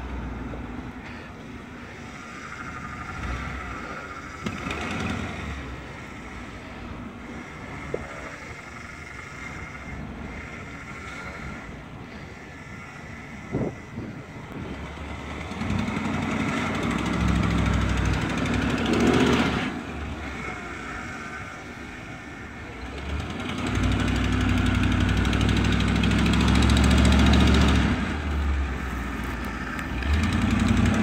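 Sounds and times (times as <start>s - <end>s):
truck engine revving under load: 0.0s - 31.0s.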